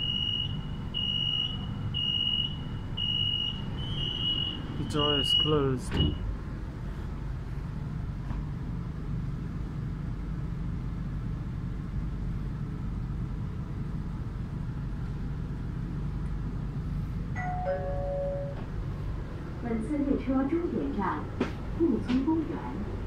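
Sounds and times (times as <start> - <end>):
subway carriage rumble: 0.0 - 23.0.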